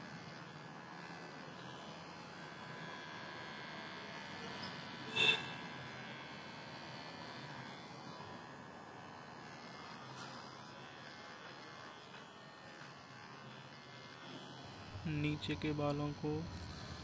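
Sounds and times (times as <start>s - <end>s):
beard trimmer buzzing: 0.0s - 17.0s.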